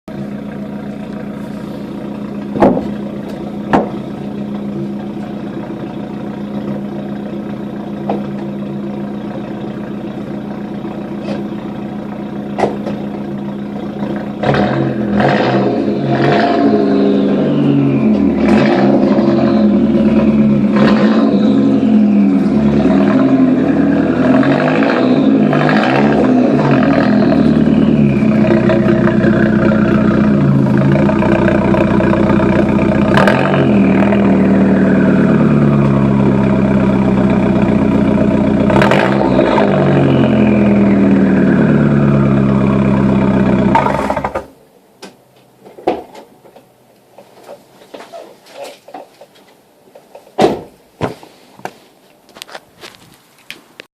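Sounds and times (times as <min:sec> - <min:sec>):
car engine idling and revving: 0:00.1 - 0:44.8.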